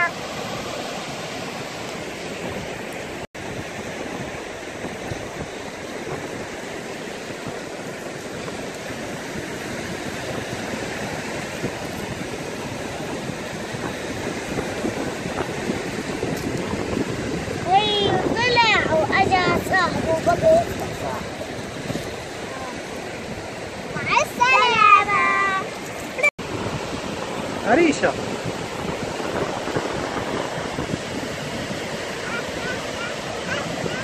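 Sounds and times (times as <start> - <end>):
sea surf washing onto shore: 0.0 - 34.0.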